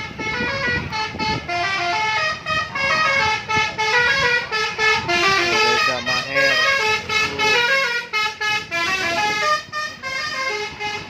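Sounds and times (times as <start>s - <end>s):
bus multi-tone horn melody: 0.0s - 11.0s.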